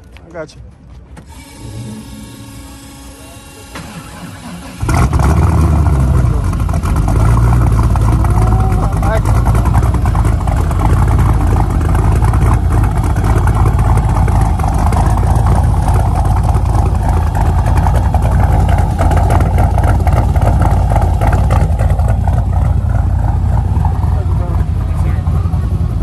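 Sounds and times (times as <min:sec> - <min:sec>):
car engine rumbling: 0:00.0 - 0:26.0.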